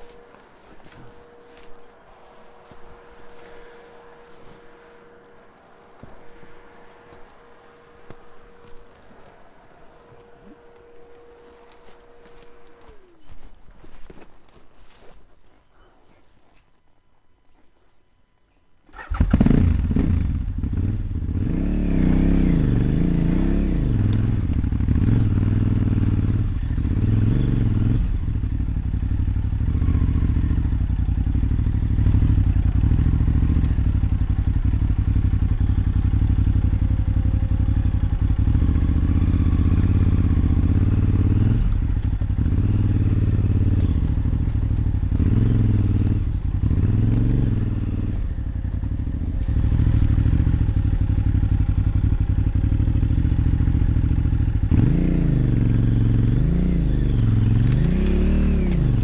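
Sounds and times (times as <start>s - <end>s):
motorcycle engine revving: 0.0s - 13.9s, 18.9s - 59.0s.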